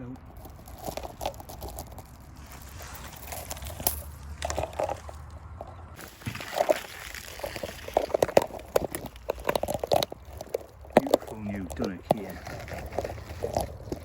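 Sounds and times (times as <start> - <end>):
dry vegetation rustling and snapping: 0.0 - 14.0.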